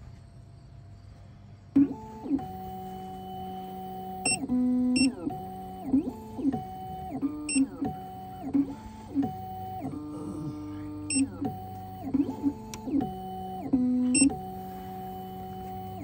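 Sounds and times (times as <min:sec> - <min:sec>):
key-cutting machine whining: 0:01.8 - 0:16.0.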